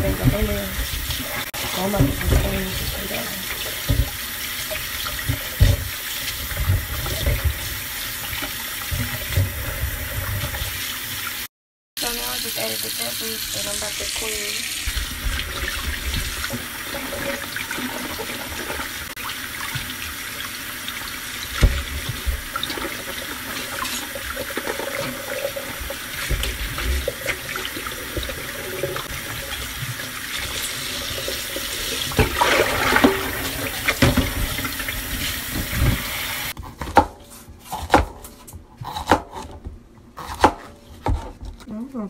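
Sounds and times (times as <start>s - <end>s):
kitchen tap running into sink: 0.0s - 36.6s.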